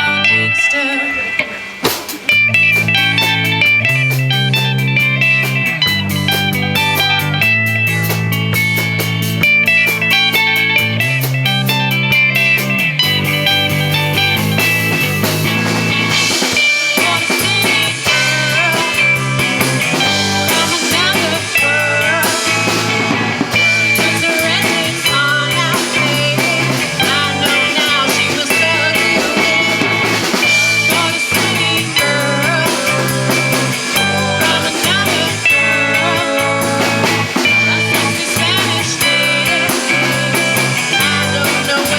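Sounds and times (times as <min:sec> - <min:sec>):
rock band playing live: 0:00.0 - 0:41.9.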